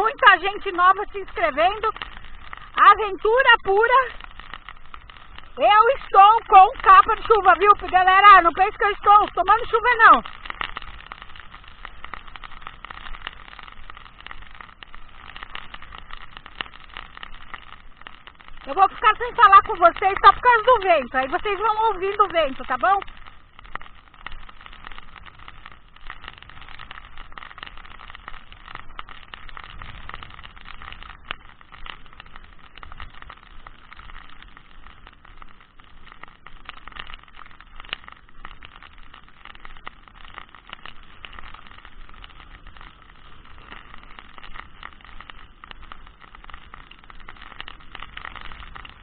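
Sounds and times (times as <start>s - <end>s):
heavy rain: 0.0s - 49.0s.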